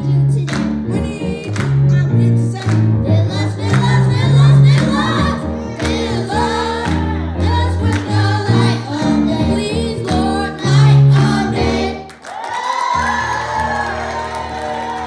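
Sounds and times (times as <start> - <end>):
bass and keyboard: 0.0 - 12.2, 12.9 - 15.0
gospel choir singing: 0.4 - 15.0.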